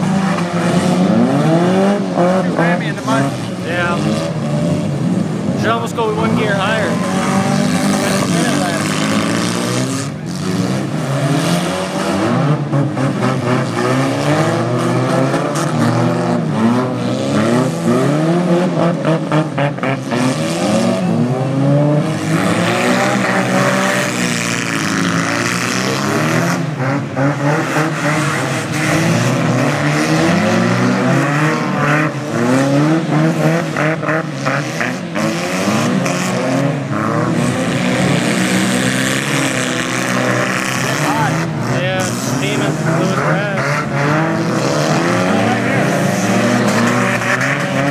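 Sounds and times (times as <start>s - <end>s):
car engines racing and revving: 0.0s - 47.9s.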